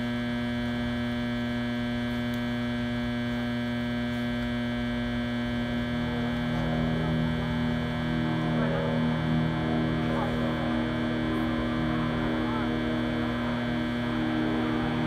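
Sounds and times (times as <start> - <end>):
generator humming: 0.0 - 15.0.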